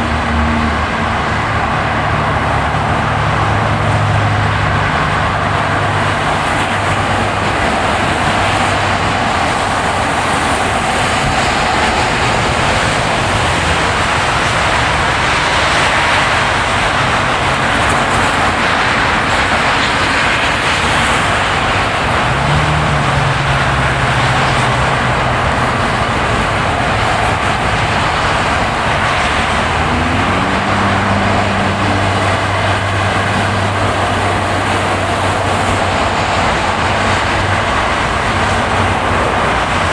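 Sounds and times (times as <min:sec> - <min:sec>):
low engine hum: 0:00.0 - 0:39.9
tyre and road noise: 0:00.0 - 0:39.9.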